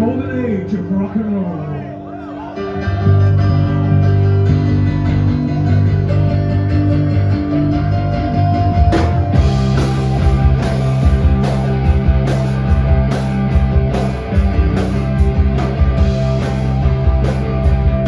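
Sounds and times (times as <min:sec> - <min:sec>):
electric guitar and bass chords: 0:00.0 - 0:18.0.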